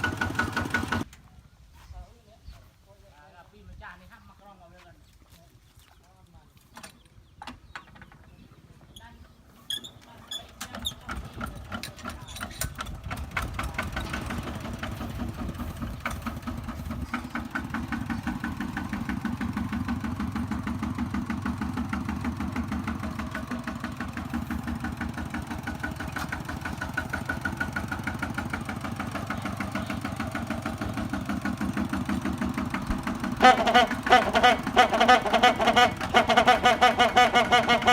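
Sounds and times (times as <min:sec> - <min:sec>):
tractor diesel engine running: 0:00.0 - 0:01.1, 0:07.2 - 0:37.9.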